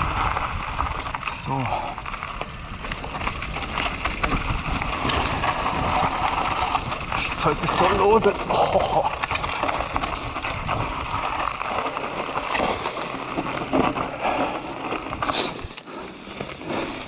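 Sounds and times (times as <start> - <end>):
bike rattling over bumps: 0.0 - 17.0
tyres crunching over stones: 0.0 - 17.0.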